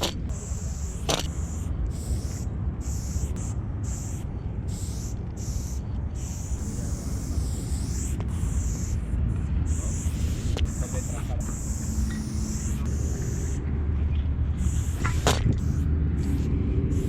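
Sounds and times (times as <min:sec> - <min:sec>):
spray paint can hissing: 0:00.0 - 0:13.7, 0:14.5 - 0:17.0.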